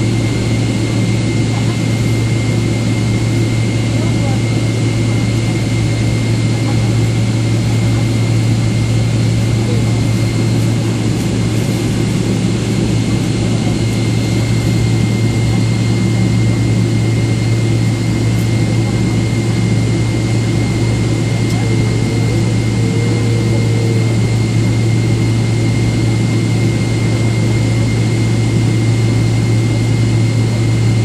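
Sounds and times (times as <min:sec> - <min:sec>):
jet engines humming: 0:00.0 - 0:31.0.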